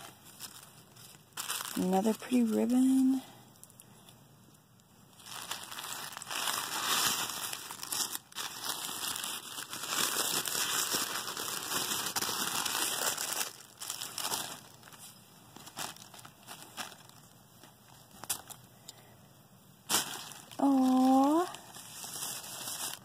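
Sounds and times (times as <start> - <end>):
tissue paper crinkling: 0.0 - 3.2, 5.1 - 18.6, 19.8 - 23.0.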